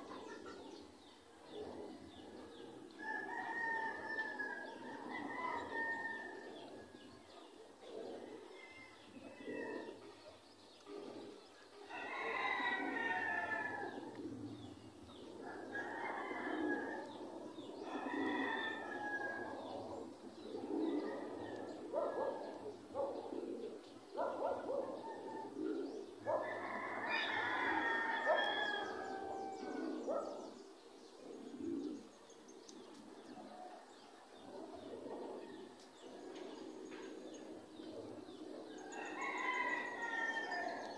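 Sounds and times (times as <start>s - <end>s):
birds calling: 3.6s - 40.9s.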